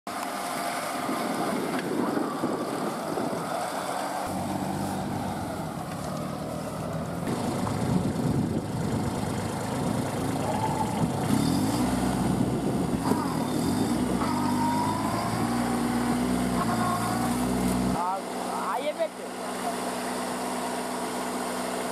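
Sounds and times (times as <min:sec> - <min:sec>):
small tractor engines running: 0:00.1 - 0:21.9.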